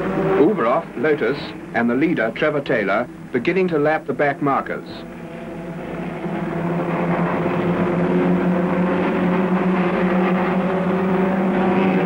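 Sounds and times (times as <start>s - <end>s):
racing car engines at high revs: 0.0s - 3.3s, 5.0s - 12.0s.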